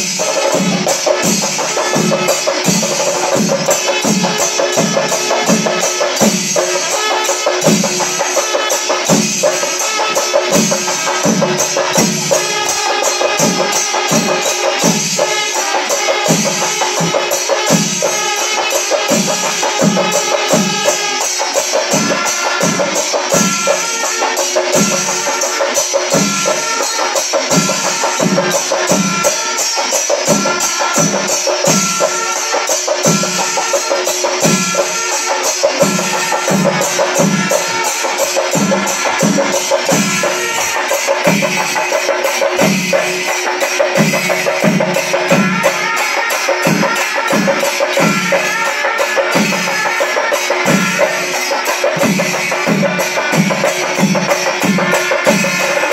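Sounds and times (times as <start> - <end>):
chenda drums: 0.0 - 55.9
hand cymbals: 0.0 - 55.9
held wind instrument notes: 0.0 - 55.9.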